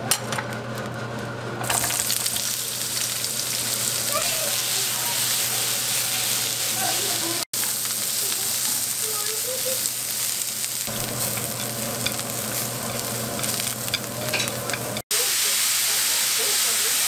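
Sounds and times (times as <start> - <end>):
vegetables sizzling in oil: 1.6 - 17.0.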